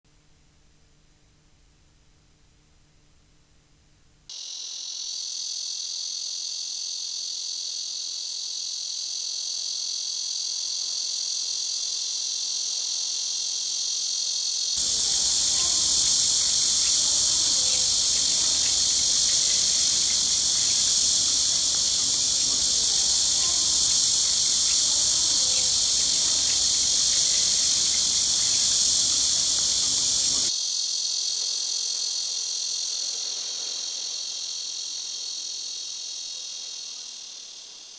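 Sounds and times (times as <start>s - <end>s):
cicadas buzzing: 4.3s - 37.9s.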